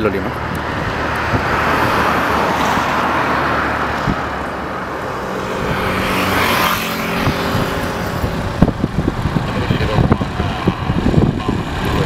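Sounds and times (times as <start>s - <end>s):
airplane engine and propeller drone: 0.0s - 12.0s
steady engine hum: 0.0s - 12.0s.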